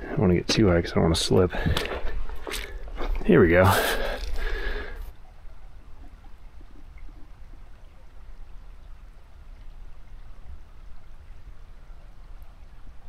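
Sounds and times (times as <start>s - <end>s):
creek water trickling: 0.0s - 13.0s
low uneven rumble: 0.0s - 13.0s.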